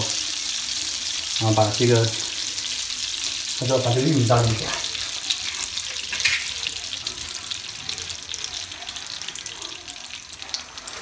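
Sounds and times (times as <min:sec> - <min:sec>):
butter sizzling in a wok: 0:00.0 - 0:11.0.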